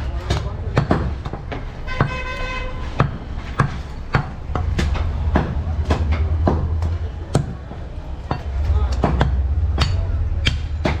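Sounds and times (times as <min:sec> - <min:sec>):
cleaver chopping meat: 0:00.2 - 0:02.2, 0:03.0 - 0:11.0.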